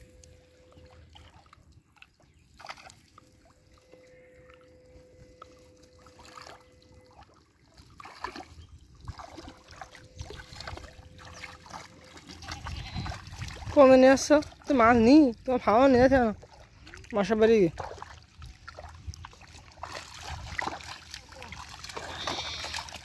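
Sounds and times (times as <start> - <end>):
pond water sloshing and splashing: 0.0 - 23.0.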